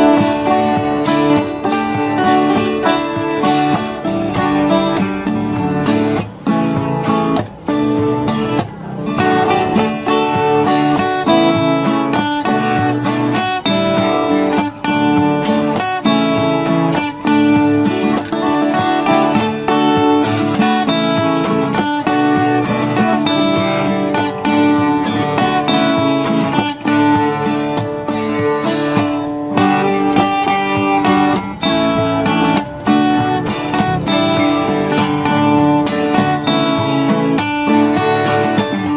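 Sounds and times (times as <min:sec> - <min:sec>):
strummed acoustic guitar music: 0:00.0 - 0:38.9.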